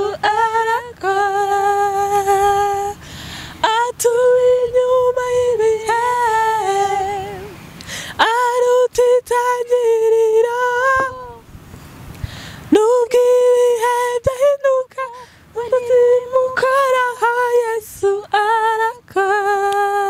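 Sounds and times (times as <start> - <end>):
women singing unaccompanied: 0.0 - 11.6, 12.6 - 20.0.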